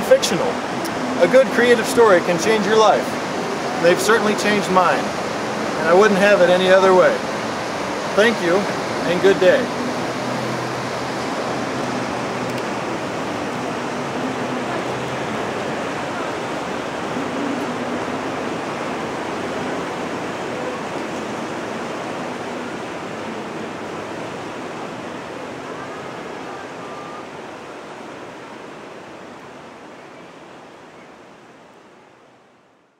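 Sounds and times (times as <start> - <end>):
rushing outdoor noise: 0.0 - 32.9.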